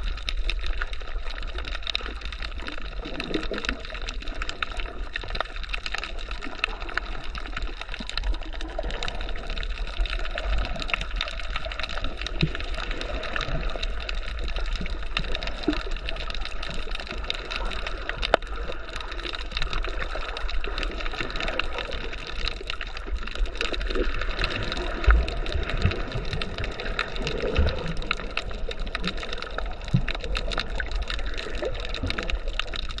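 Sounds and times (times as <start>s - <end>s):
small underwater clicks and crackles: 0.0s - 33.0s
underwater moving water: 0.0s - 33.0s.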